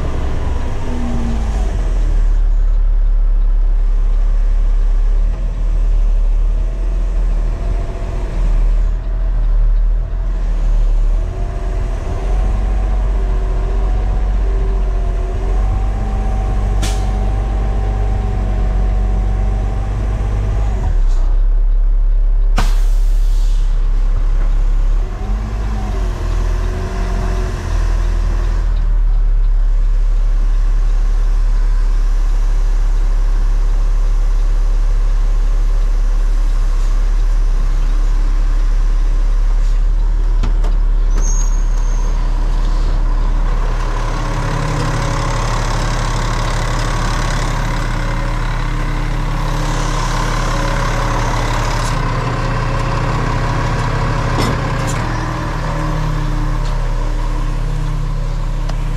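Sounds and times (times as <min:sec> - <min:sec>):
truck diesel engine running: 0:00.0 - 0:41.2, 0:41.9 - 0:58.9.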